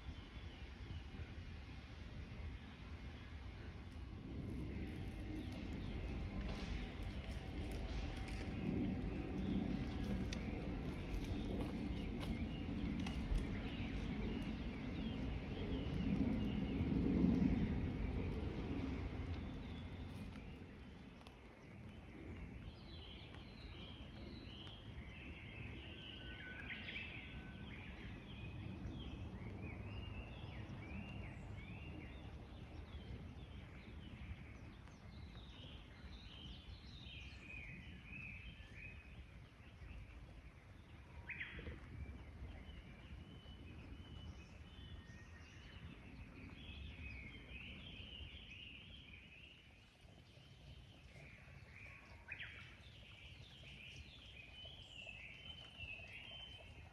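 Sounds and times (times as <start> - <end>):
steady low rumble: 0.0 - 56.9
songbirds chirping: 3.2 - 56.9.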